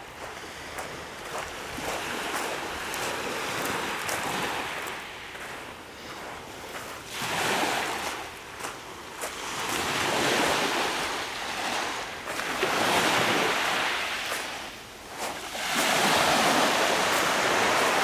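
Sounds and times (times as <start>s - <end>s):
waves washing up pebble beach: 0.1s - 18.0s.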